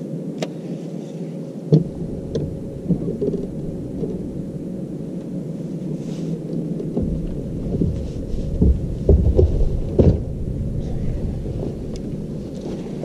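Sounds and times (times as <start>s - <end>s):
muffled low rumble: 1.0s - 13.0s
deeper rumble: 1.7s - 13.0s.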